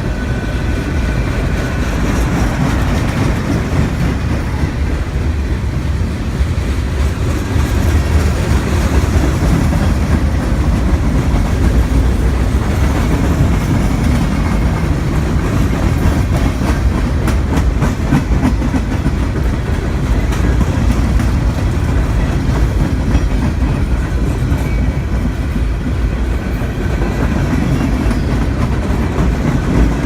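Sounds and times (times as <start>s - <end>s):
train rumbling past: 0.0s - 30.0s
wheels clacking over rail joints: 0.2s - 5.4s, 6.6s - 30.0s.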